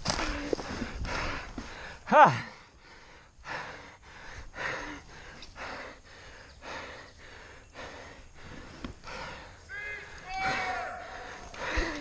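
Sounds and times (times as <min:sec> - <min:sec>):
person breathing heavily: 0:00.1 - 0:09.7, 0:11.0 - 0:12.0.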